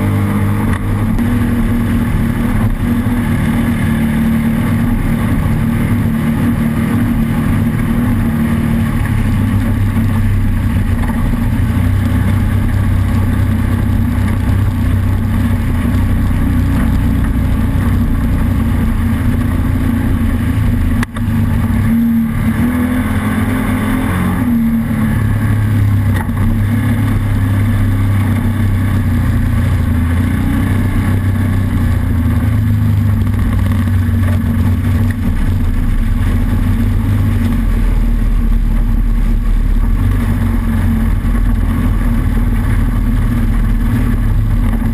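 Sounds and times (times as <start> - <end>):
race vehicle engine running hard: 0.0 - 44.9.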